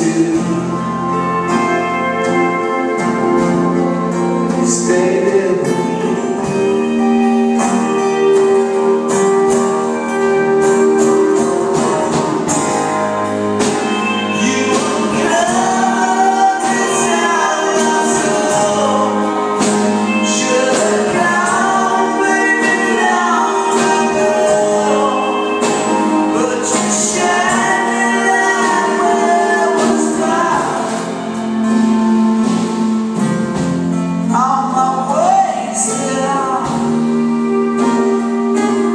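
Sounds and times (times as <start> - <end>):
live music with singing: 0.0 - 38.9.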